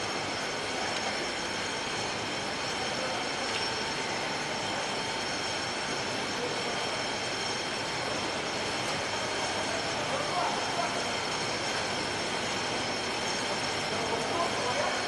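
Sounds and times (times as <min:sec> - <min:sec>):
high machine whines: 0:00.0 - 0:15.0
steady machinery noise: 0:00.0 - 0:15.0.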